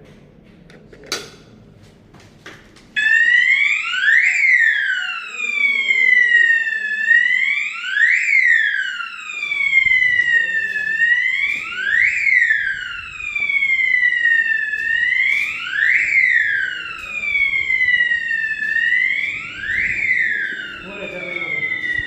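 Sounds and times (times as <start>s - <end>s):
fire alarm wailing sweep: 3.0s - 22.0s.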